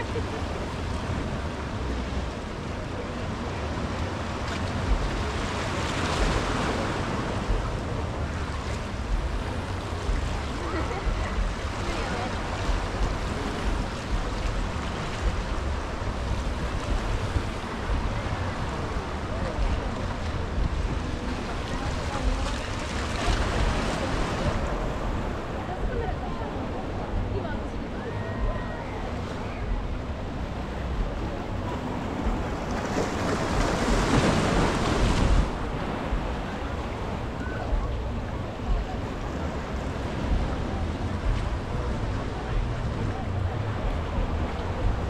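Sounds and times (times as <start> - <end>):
waves breaking on beach: 0.0 - 45.0
wind buffeting microphone: 0.0 - 45.0.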